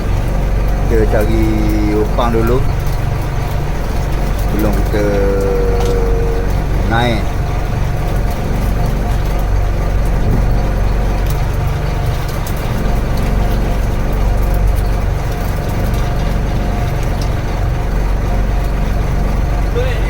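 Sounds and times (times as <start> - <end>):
boat engine droning: 0.0 - 20.0
faint engine whine: 0.0 - 20.0.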